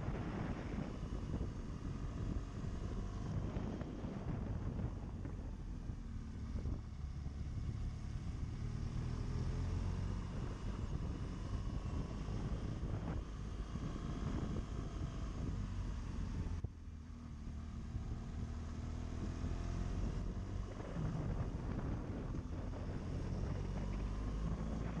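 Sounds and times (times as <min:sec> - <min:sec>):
wind noise on microphone: 0:00.0 - 0:16.7, 0:19.0 - 0:25.0
motorcycle engine running: 0:00.0 - 0:25.0.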